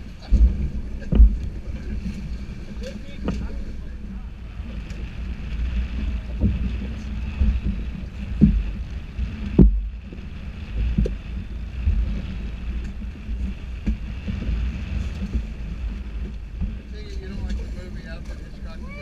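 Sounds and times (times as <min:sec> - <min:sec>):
boat engine rumble and hum: 0:00.0 - 0:19.0
wind on microphone: 0:00.0 - 0:19.0.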